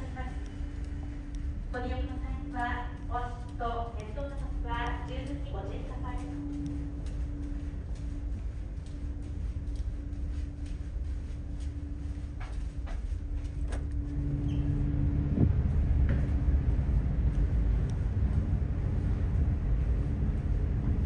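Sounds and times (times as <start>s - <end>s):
ship interior hum: 0.0s - 21.0s
ship rumble in open air: 0.0s - 21.0s.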